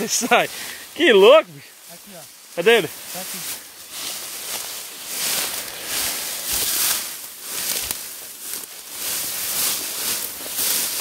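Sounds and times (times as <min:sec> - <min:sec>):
feet trampling through long grass: 0:00.0 - 0:11.0.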